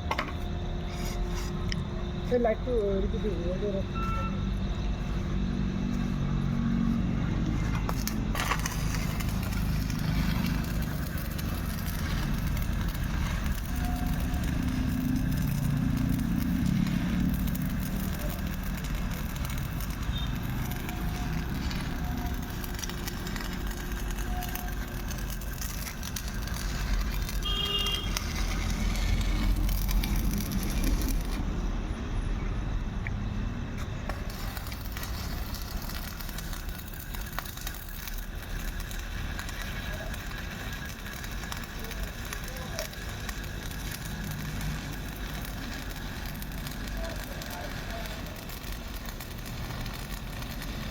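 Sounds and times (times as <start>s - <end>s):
low engine-like rumble: 0.0s - 50.9s
electric arc welding crackling: 1.6s - 31.8s, 33.6s - 50.9s.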